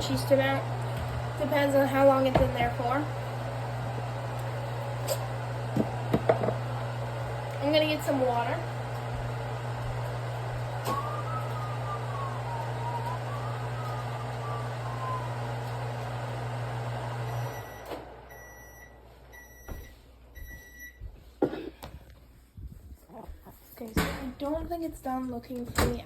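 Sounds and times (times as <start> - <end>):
microwave oven humming: 0.0 - 21.1.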